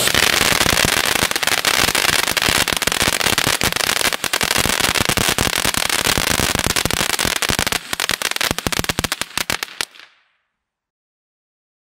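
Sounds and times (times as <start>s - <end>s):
firework crackling pops: 0.0s - 10.4s.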